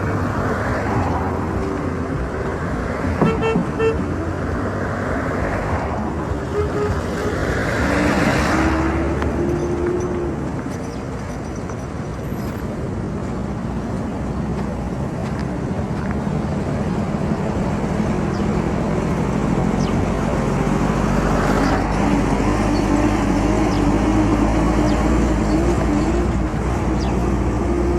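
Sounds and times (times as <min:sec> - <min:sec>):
motor vehicle engine rumble: 0:00.0 - 0:27.9
road noise: 0:00.0 - 0:27.9.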